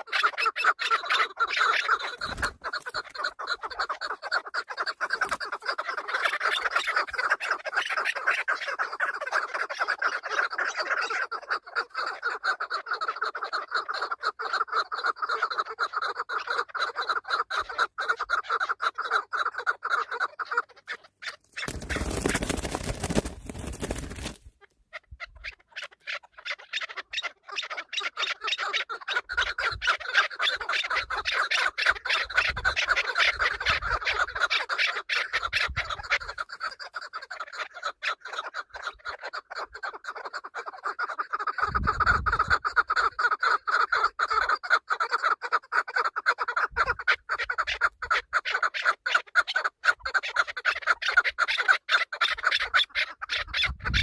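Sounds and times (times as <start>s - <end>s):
partridges clucking calls: 0.0s - 54.0s.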